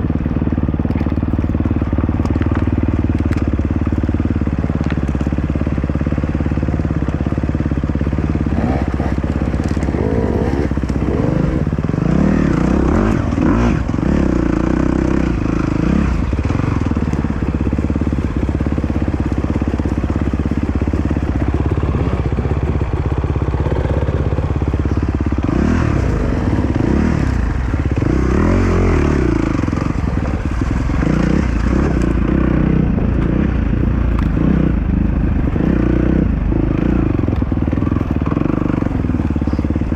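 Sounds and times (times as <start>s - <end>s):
dirt bike engine revving: 5.4s - 39.9s.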